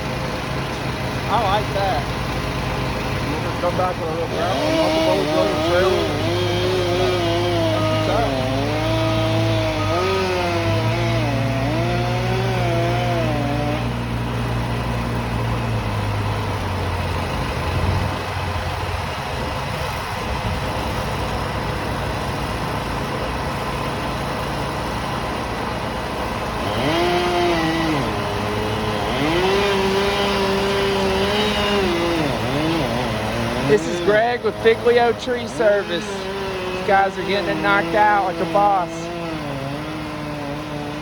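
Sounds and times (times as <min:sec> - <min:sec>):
chainsaw running: 0:00.0 - 0:41.0
low engine drone: 0:00.0 - 0:41.0.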